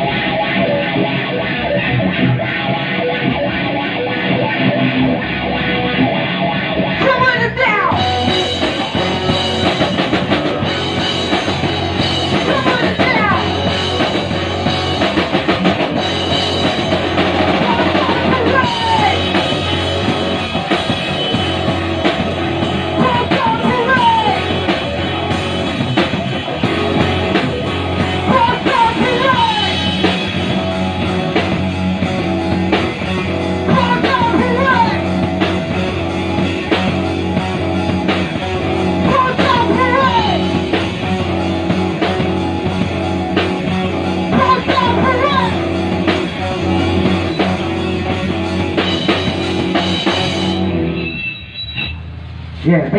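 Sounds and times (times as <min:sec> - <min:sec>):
distorted electric guitar: 0:00.0 - 0:52.9
drum kit: 0:00.0 - 0:52.9.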